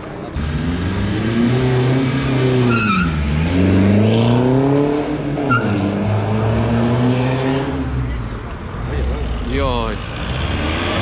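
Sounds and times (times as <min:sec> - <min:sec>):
car engine revving: 0:00.3 - 0:08.0, 0:09.0 - 0:11.0.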